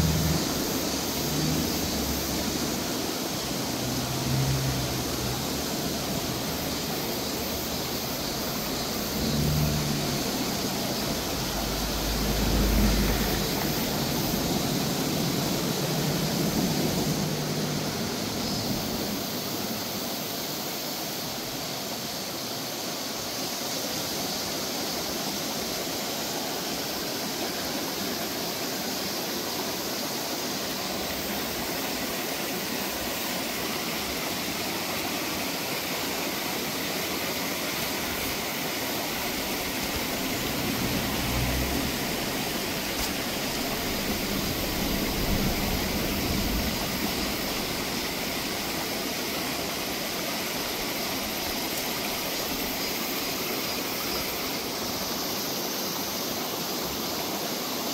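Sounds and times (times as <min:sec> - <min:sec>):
stream rushing over stones: 0:00.0 - 0:57.9.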